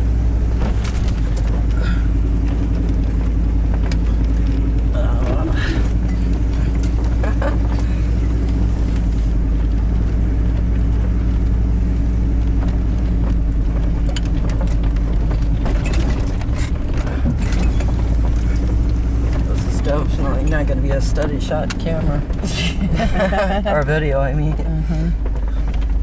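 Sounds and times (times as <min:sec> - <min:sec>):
knocks and rattles over rocks: 0:00.0 - 0:26.0
truck engine droning: 0:00.0 - 0:26.0.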